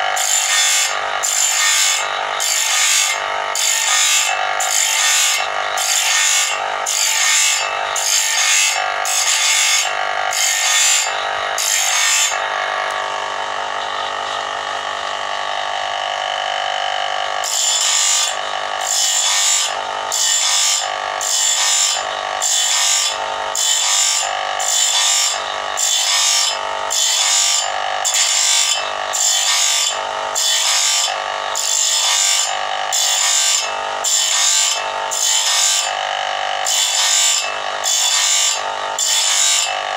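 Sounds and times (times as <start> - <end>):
disc grinding saw blade teeth: 0.0 - 39.9
electric grinder motor whining: 0.0 - 39.9.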